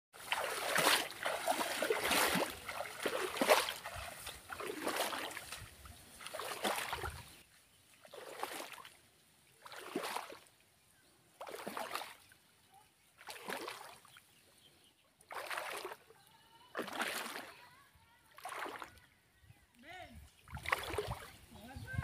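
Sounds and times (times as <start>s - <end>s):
footsteps wading through water: 0.1s - 10.6s, 11.3s - 12.4s, 13.0s - 14.4s, 15.2s - 17.7s, 18.3s - 19.1s, 20.2s - 22.0s.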